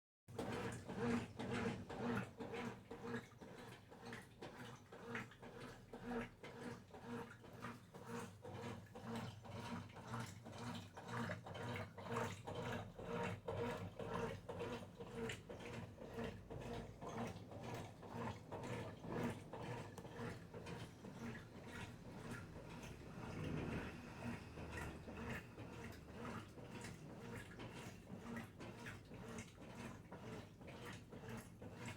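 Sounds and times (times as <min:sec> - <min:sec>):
washing machine running: 0:00.3 - 0:31.9.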